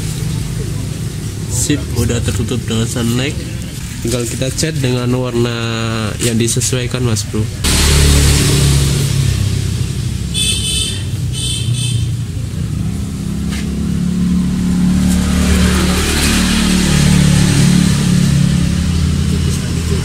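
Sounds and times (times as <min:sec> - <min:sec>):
vehicle engine revving: 0:00.0 - 0:06.3, 0:07.2 - 0:20.0.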